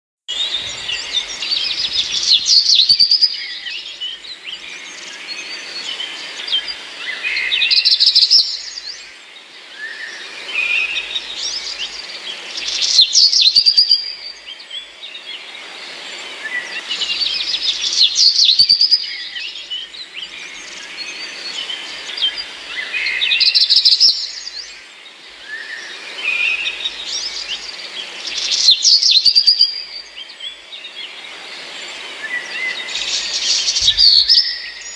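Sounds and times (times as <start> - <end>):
faint hiss: 0.3 - 34.9
small birds chirping and singing: 0.3 - 34.9.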